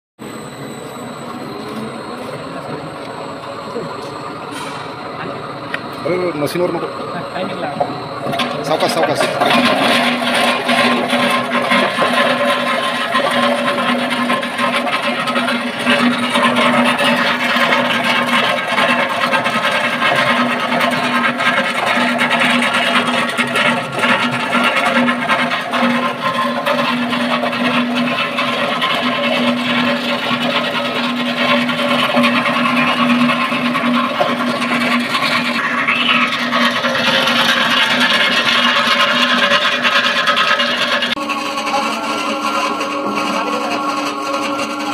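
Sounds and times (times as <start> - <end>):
vegetable slicing machine motor hum: 0.2 - 44.9.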